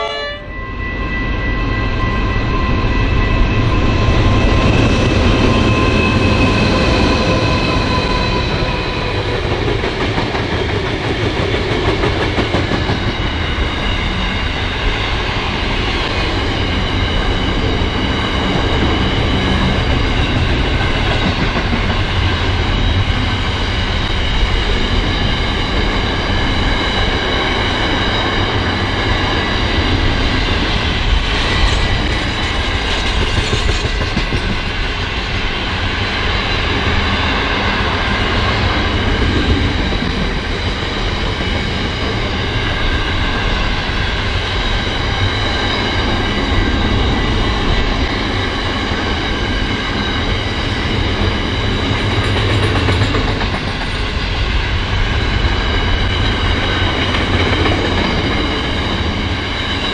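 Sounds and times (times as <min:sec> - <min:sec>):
freight train wagons rolling past: 0:00.0 - 0:59.9.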